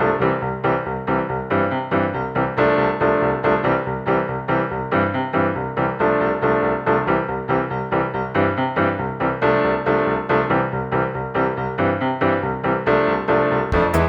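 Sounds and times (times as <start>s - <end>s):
piano background music: 0.0s - 14.0s.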